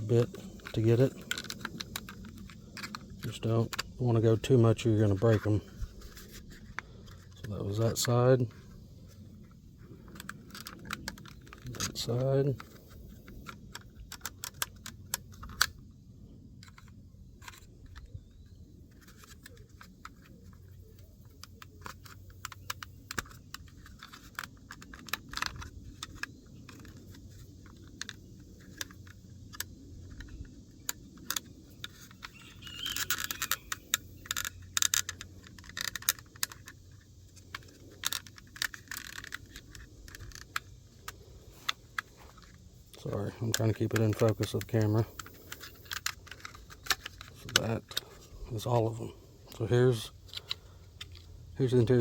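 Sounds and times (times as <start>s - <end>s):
plastic clicks: 0.0s - 15.8s, 16.6s - 52.0s
screwdriver scraping plastic: 0.0s - 15.8s, 16.6s - 48.9s.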